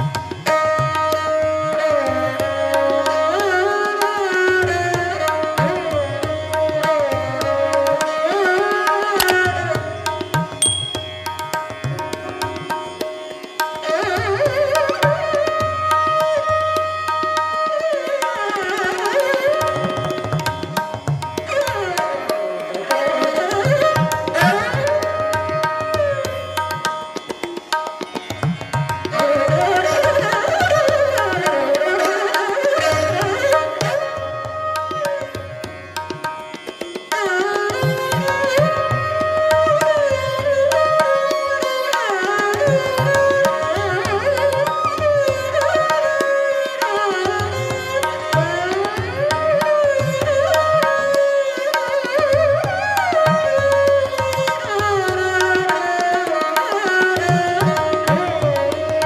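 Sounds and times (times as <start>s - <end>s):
tabla drumming: 0.0s - 59.0s.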